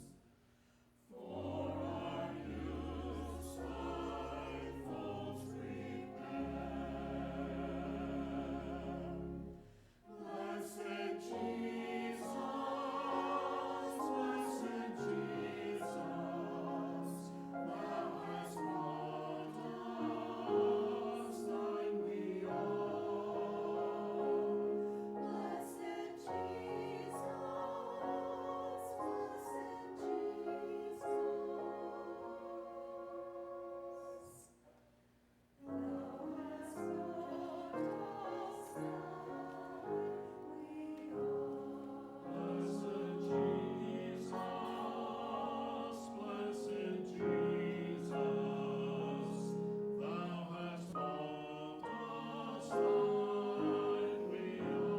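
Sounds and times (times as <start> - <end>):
church choir singing: 0.0 - 0.2, 1.1 - 34.6, 35.6 - 54.9.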